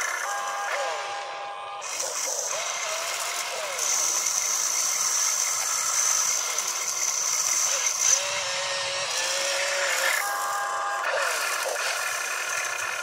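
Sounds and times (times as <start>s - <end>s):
electric gear motors whining: 0.0s - 13.0s.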